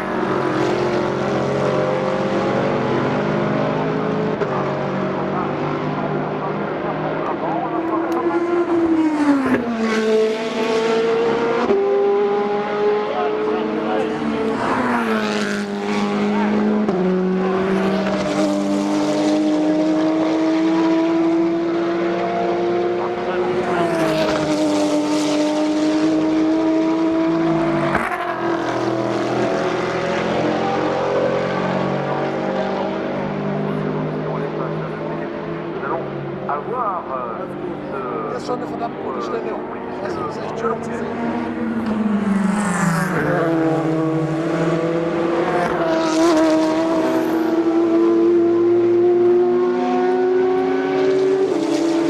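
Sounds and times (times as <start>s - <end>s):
race car engines at high revs: 0.0s - 52.0s.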